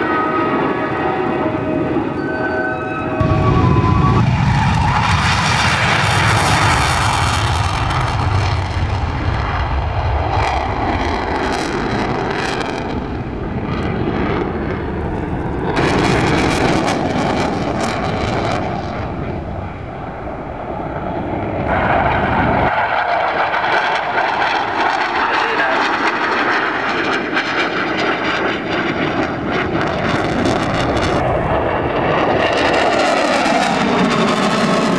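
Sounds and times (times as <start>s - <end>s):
aircraft engine noise: 0.0s - 34.9s.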